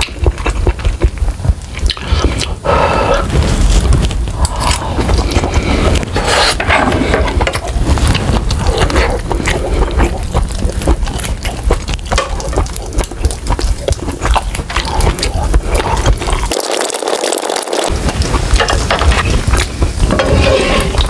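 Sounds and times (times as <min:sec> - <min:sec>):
close chewing: 0:00.0 - 0:21.0.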